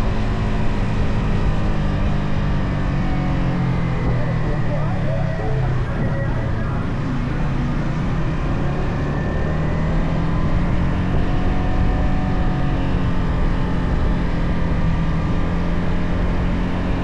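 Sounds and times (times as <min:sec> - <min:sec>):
motorcycle engine running: 0:00.0 - 0:17.0
road rumble: 0:00.0 - 0:17.0.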